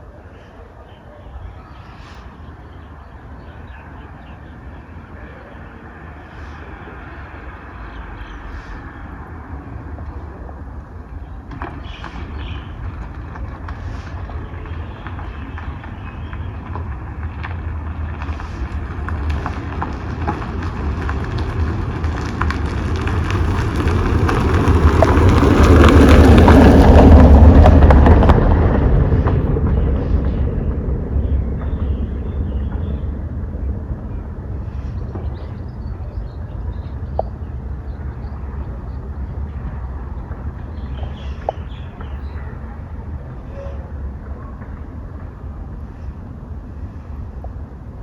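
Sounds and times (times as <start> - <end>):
vehicle passing by: 1.7 - 43.4.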